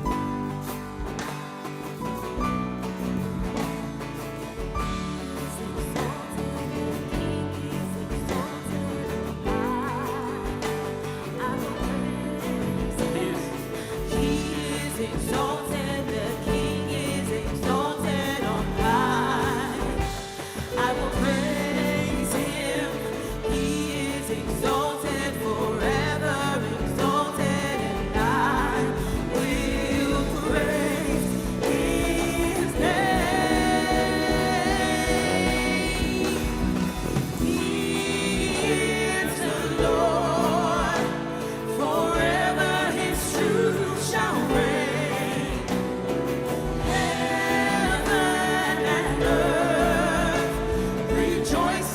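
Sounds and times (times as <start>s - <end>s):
singers with vibrato: 4.8s - 51.9s
choir joining in: 5.7s - 51.9s.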